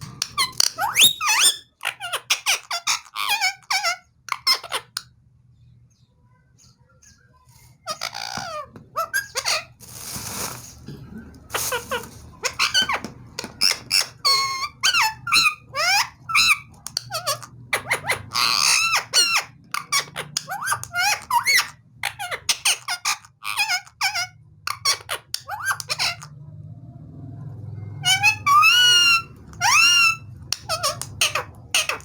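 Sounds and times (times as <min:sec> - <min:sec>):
parakeet chattering: 0:00.0 - 0:05.0, 0:07.8 - 0:09.8, 0:11.5 - 0:26.3, 0:28.0 - 0:32.0
parakeet screech: 0:00.3 - 0:05.0, 0:07.8 - 0:10.5, 0:11.5 - 0:26.3, 0:27.9 - 0:32.0
faint low hum: 0:02.1 - 0:32.0.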